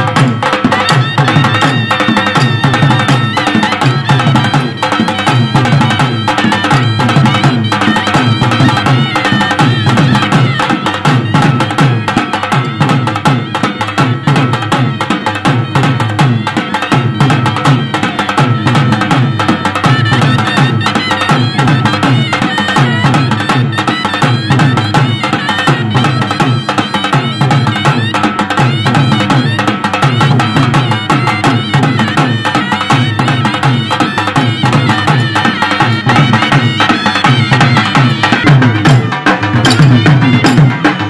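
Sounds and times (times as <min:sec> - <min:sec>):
drums beating: 0:00.0 - 0:41.0
folk band music: 0:00.0 - 0:41.0
sharp percussive hits: 0:00.0 - 0:41.0
reed instrument melody: 0:00.1 - 0:41.0.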